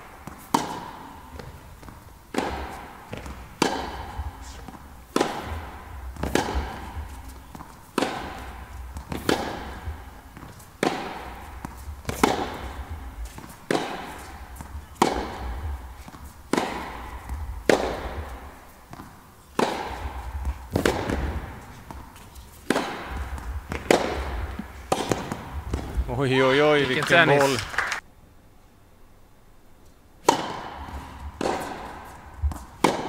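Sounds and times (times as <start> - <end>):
tennis racket hitting ball: 0.0 - 27.3, 30.2 - 33.0.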